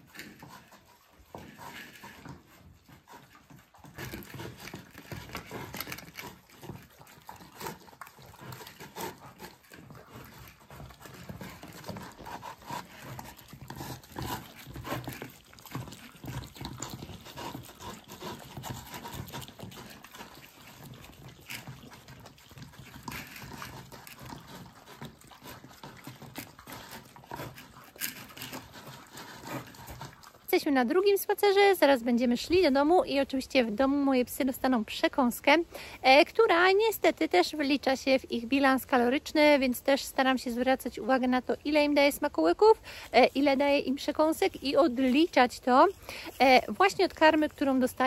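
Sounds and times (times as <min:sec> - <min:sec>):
dogs licking and chewing: 0:00.0 - 0:48.0.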